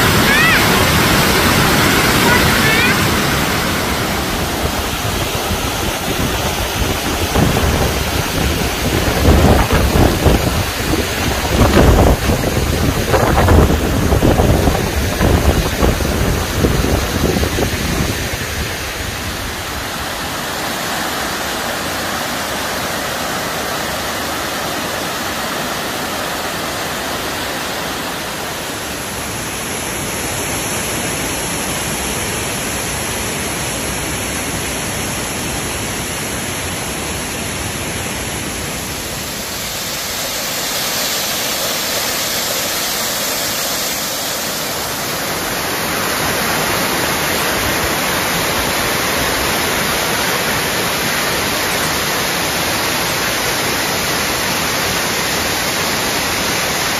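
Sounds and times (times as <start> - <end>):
waterfall rushing over rocks: 0.0 - 56.9.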